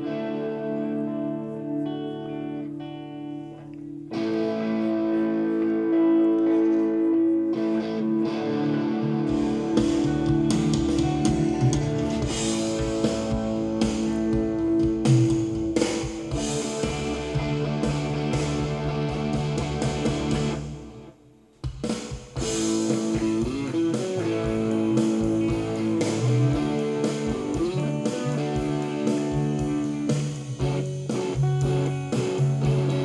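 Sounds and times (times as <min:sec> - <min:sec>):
guitar-led band music: 0:00.0 - 0:33.0.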